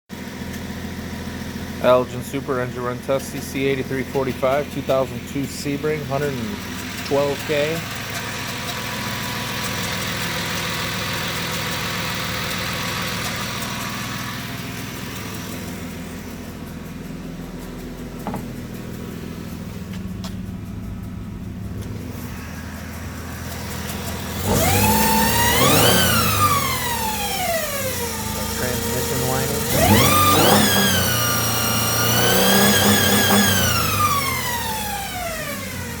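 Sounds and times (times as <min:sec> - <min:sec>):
car engine idling: 0:00.1 - 0:36.0.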